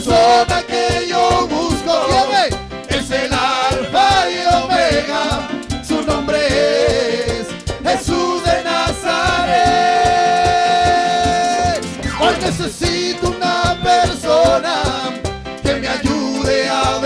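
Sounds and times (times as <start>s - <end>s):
live worship band playing: 0.0s - 17.0s
several people singing: 0.0s - 17.0s.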